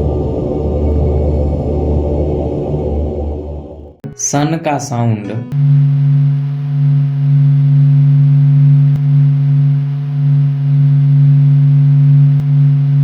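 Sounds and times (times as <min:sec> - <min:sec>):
steady low drone: 0:00.0 - 0:04.1, 0:05.5 - 0:13.0.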